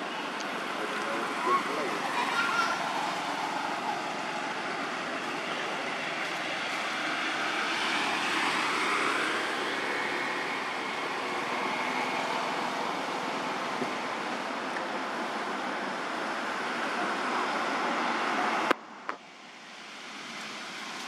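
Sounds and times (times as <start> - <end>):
outdoor background rush: 0.0 - 21.0.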